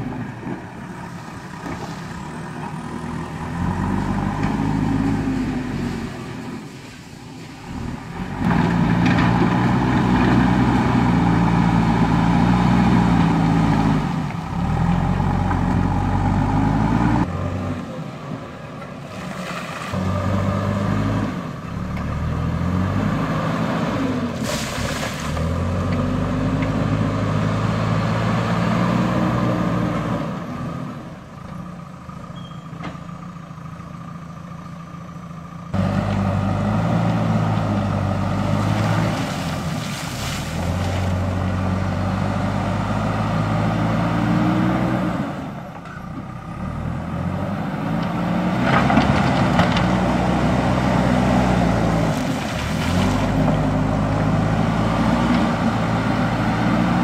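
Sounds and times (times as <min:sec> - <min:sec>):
diesel engine labouring: 0:00.0 - 0:57.0.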